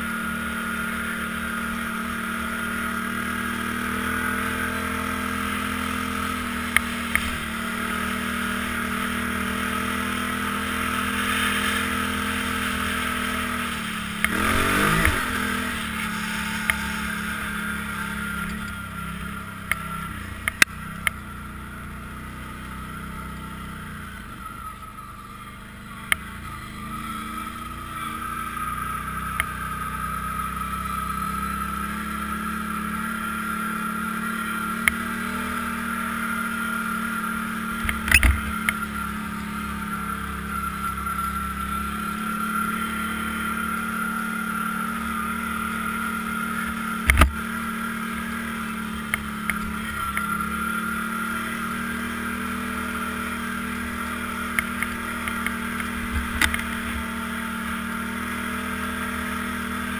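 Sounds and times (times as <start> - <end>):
atv engine droning: 0.0 - 59.9.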